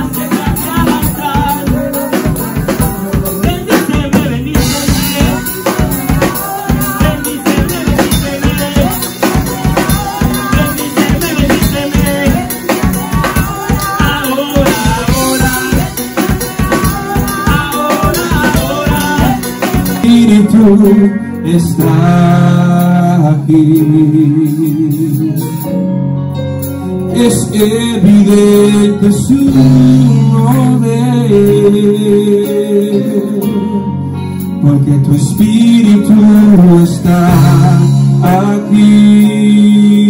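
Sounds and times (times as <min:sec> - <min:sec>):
upbeat music with drum kit: 0:00.0 - 0:33.8, 0:34.4 - 0:40.0.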